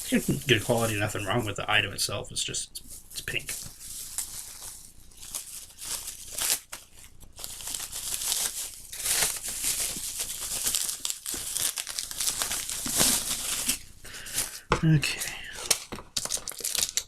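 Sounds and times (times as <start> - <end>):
packaging crinkling and rustling: 0.0 - 1.6, 3.2 - 17.0.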